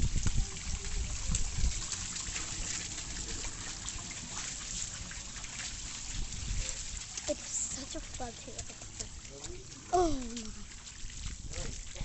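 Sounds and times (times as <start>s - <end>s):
water trickling and spattering: 0.0s - 12.0s.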